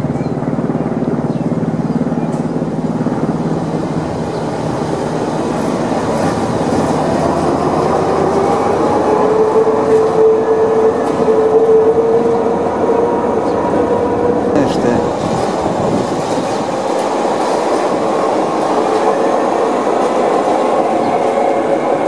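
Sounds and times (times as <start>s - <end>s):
railcar running on rack track: 0.0s - 22.0s.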